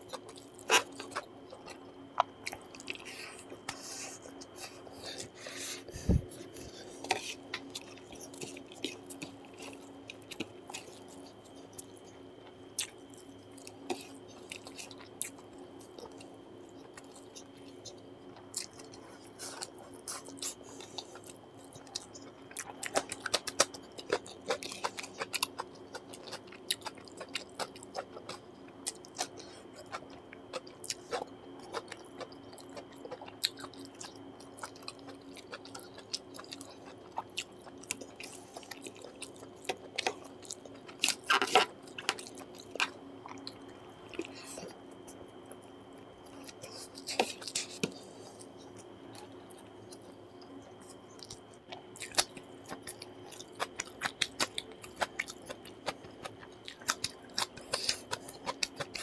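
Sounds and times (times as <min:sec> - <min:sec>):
faint steady hum: 0:00.0 - 0:59.0
chewing and mouth smacks: 0:06.4 - 0:59.0.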